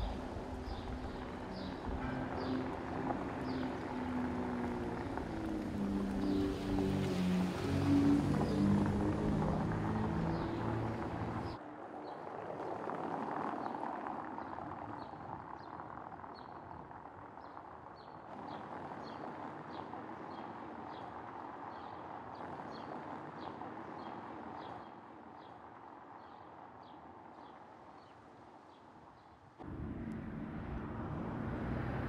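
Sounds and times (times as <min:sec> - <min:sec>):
rushing outdoor background: 0:00.0 - 0:32.0.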